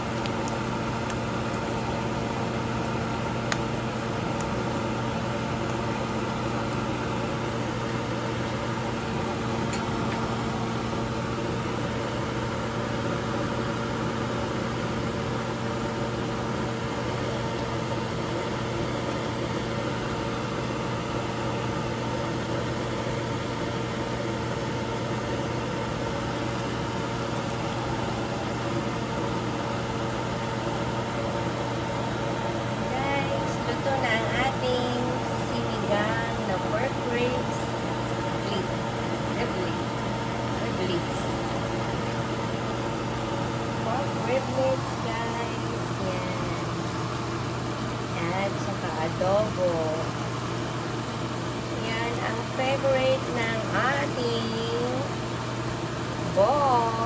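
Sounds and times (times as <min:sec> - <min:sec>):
appliance electric hum: 0:00.0 - 0:57.0.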